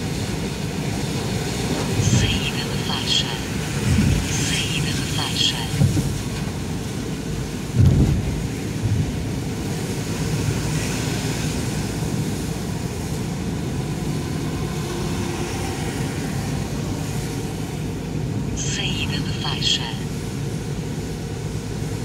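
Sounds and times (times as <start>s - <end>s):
car road rumble: 0.0s - 19.3s.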